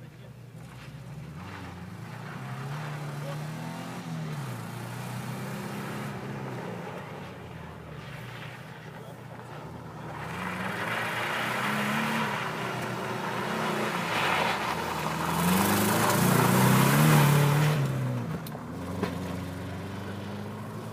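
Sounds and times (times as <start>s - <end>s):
rally car engine passing: 0.0s - 20.9s.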